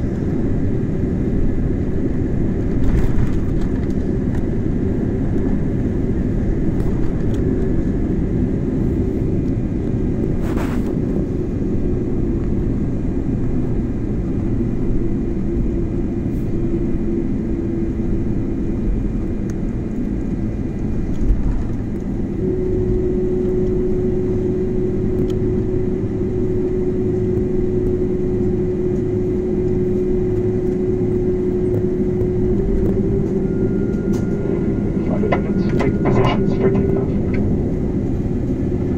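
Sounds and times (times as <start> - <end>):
jet engines idling: 0.0 - 38.9
steady cabin hum: 0.0 - 38.9.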